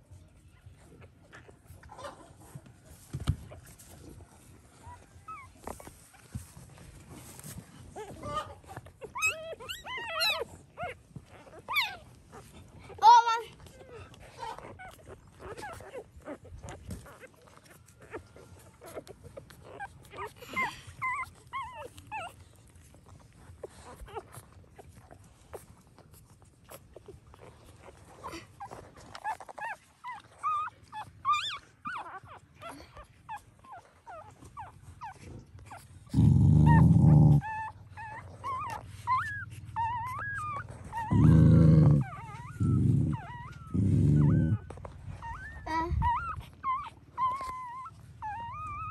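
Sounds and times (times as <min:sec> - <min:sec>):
puppies squeaking and whimpering: 0:00.5 - 0:48.9.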